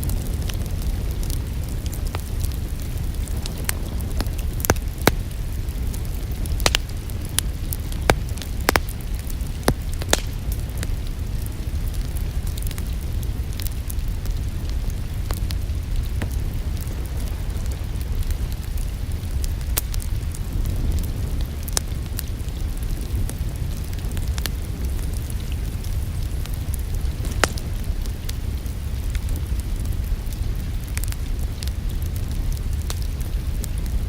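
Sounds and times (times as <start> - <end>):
steady low rumble: 0.0 - 34.0
wood fire crackling: 0.0 - 34.0.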